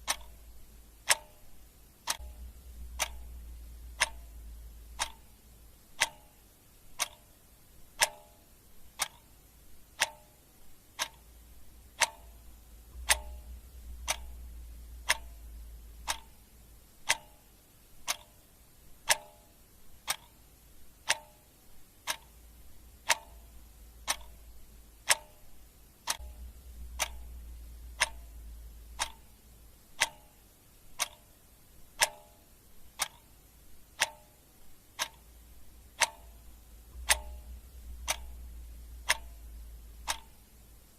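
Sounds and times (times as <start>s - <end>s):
clock ticking: 0.0s - 40.9s
faint low rumble: 0.0s - 40.9s.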